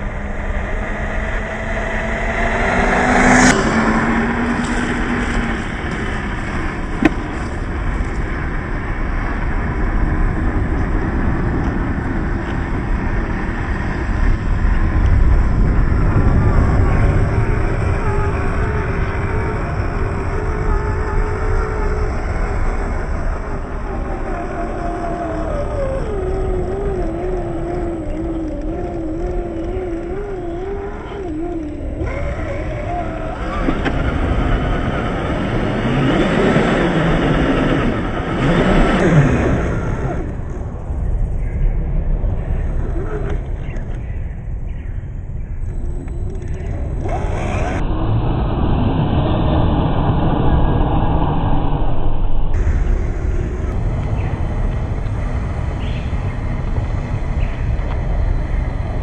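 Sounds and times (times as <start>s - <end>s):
electric motor and gear whine: 0.0s - 44.8s, 45.4s - 50.9s, 51.8s - 59.0s
low rumble: 0.0s - 59.0s.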